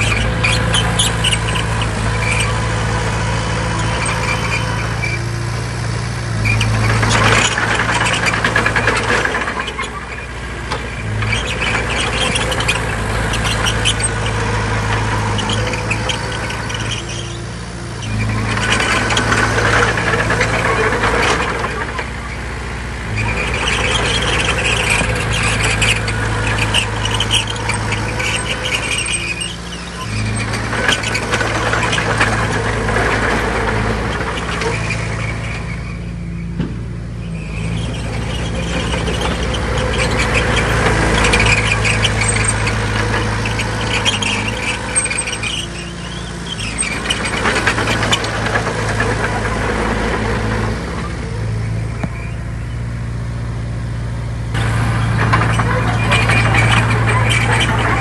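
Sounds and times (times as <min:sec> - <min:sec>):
heavy diesel engine under load: 0:00.0 - 0:58.0
metallic squealing and clanking: 0:00.0 - 0:58.0.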